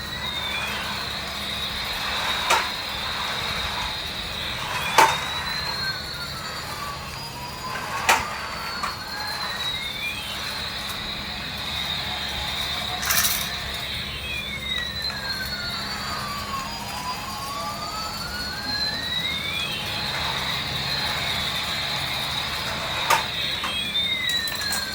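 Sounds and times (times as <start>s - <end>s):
siren-like electronic tones: 0.0s - 24.9s
steady high tone: 0.0s - 24.9s.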